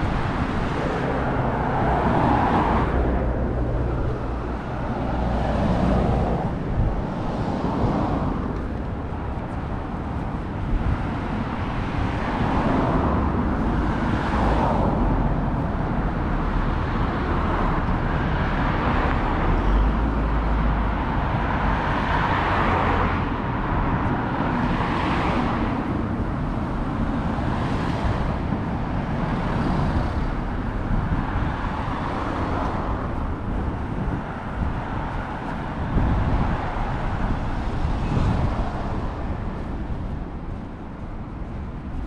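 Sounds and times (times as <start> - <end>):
cars passing: 0.0 - 42.0
traffic hum: 0.0 - 42.0.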